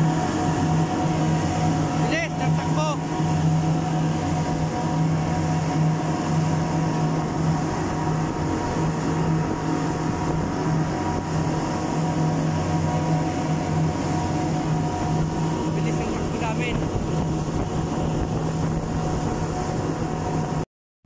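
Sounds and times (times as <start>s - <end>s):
outboard motors droning: 0.0s - 20.6s
rushing wake water: 0.0s - 20.6s.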